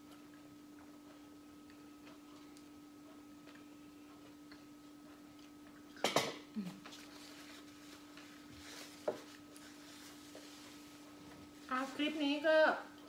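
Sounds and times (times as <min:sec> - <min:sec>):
steady faint hum: 0:00.0 - 0:13.0.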